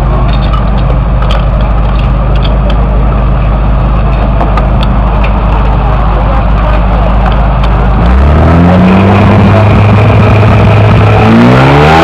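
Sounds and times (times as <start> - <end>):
pump engine running: 0.0 - 11.2.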